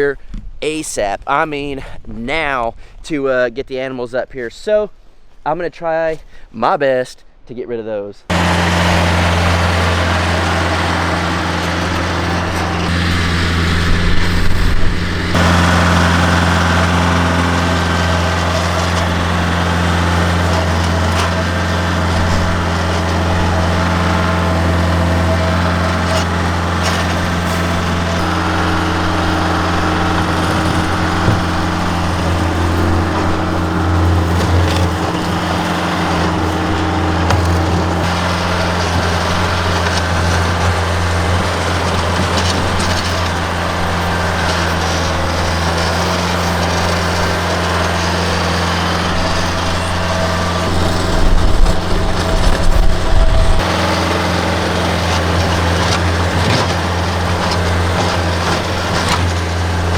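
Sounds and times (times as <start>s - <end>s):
tractor engine running: 8.3s - 59.9s.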